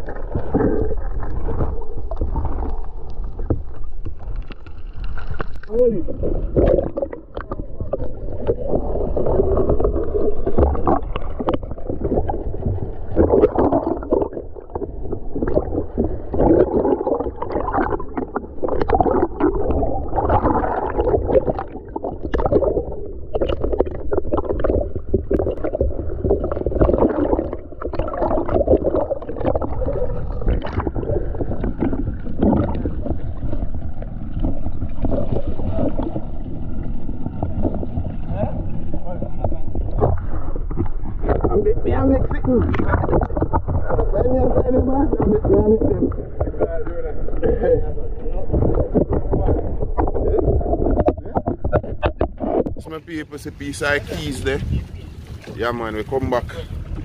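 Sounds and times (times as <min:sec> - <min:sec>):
muffled water sloshing and gurgling: 0:00.0 - 0:57.0.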